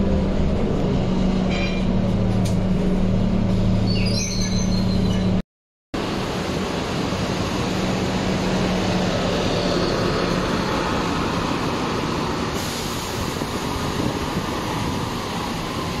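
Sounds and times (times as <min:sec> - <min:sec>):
bus pulling away: 0:00.0 - 0:05.4, 0:06.0 - 0:16.0.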